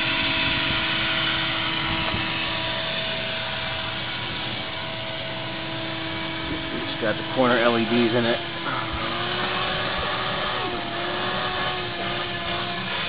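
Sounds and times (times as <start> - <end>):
mechanical hum: 0.0 - 13.0
whining tones: 0.0 - 13.0.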